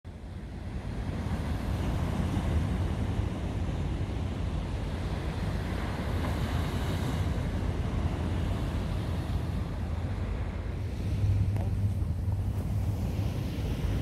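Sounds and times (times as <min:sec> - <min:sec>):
wind rumbling on microphone: 0:00.1 - 0:14.0
sea surf breaking on beach: 0:00.4 - 0:14.0.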